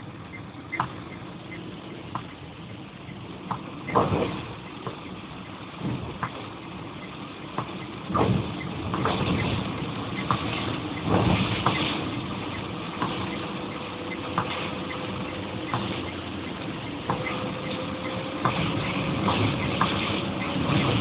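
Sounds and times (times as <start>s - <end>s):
road and rain noise in car: 0.0s - 21.0s.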